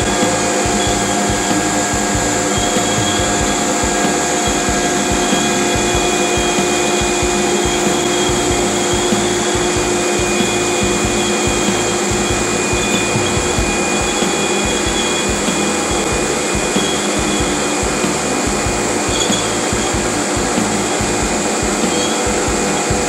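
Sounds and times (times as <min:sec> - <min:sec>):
dust collector rushing: 0:00.0 - 0:23.0
router spindle whining: 0:00.0 - 0:23.0.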